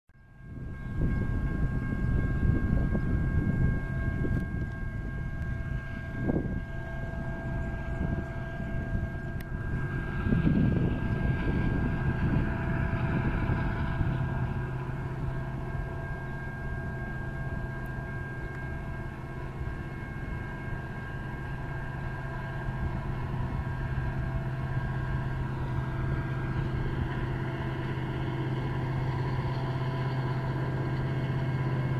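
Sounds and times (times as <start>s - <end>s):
distant diesel freight train rumble: 0.2s - 31.9s.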